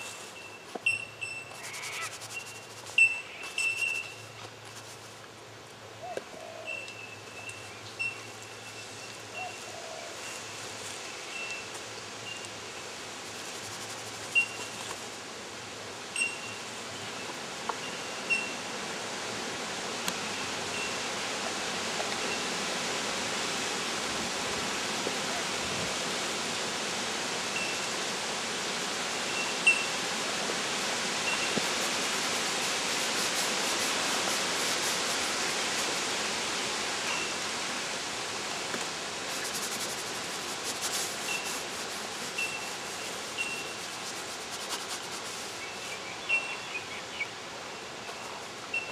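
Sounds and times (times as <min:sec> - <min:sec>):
steady rushing hiss: 0:00.0 - 0:48.8.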